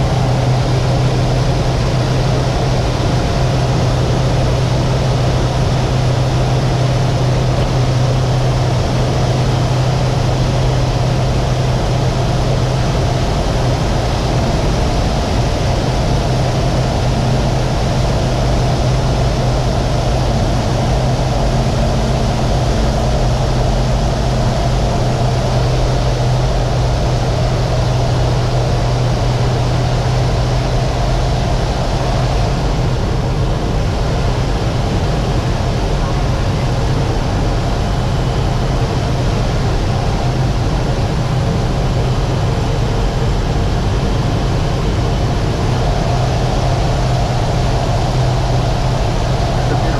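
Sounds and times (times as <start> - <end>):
aircraft engine droning: 0.0 - 49.9.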